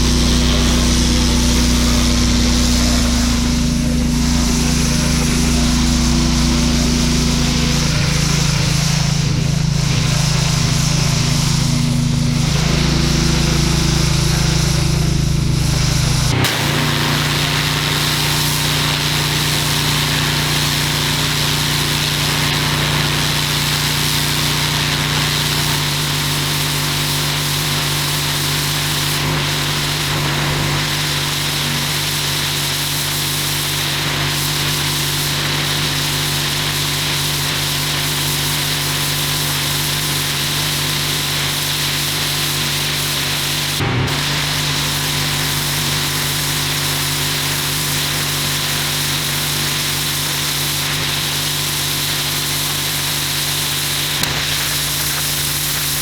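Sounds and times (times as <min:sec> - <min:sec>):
water spraying hiss: 0:00.0 - 0:15.0, 0:15.7 - 0:56.0
pressure washer motor hum: 0:00.0 - 0:56.0.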